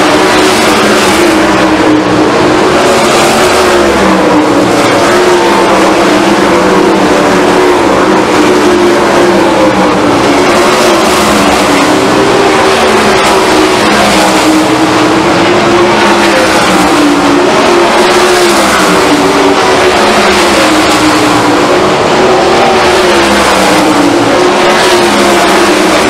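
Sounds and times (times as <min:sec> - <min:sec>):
race car engines roaring: 0:00.0 - 0:26.0.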